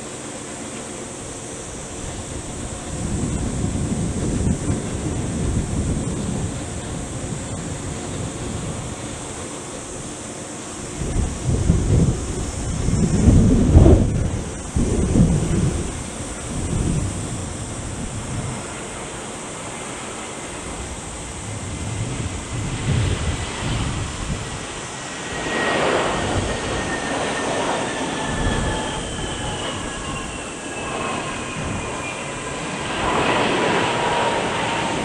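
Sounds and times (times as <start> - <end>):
jet engines passing: 0.0 - 35.0.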